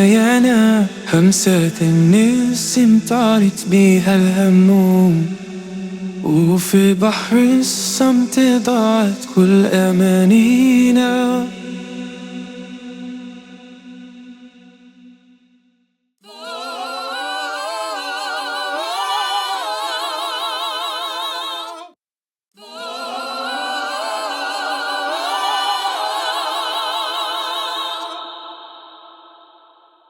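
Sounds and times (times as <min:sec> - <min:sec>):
wordless solo singing with vibrato: 0:00.0 - 0:15.2, 0:16.2 - 0:22.0, 0:22.6 - 0:29.7.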